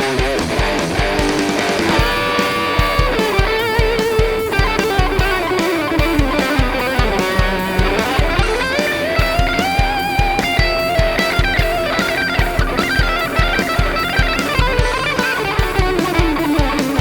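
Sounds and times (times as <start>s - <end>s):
overdriven electric guitar lead: 0.0s - 17.0s
backing track kick drum: 0.1s - 17.0s.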